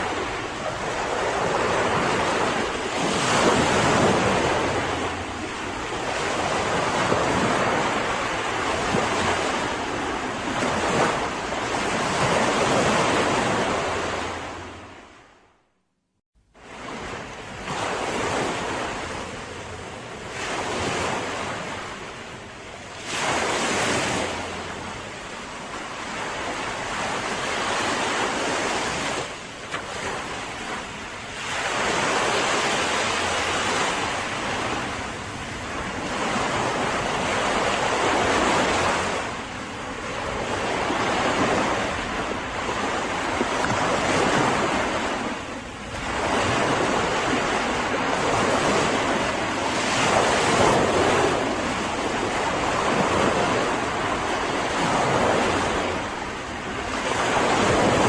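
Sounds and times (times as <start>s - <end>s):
sea waves breaking on a beach: 0.0s - 15.5s, 16.5s - 58.0s.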